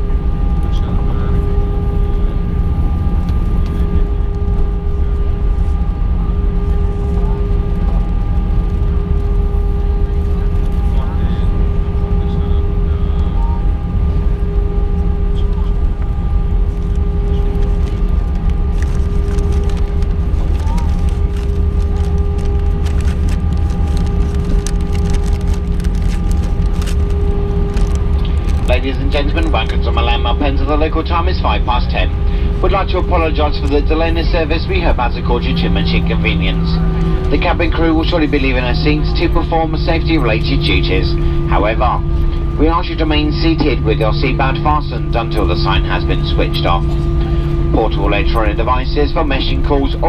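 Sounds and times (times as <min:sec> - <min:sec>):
aircraft cabin low rumble: 0:00.0 - 0:50.0
engine whining tones: 0:00.0 - 0:50.0.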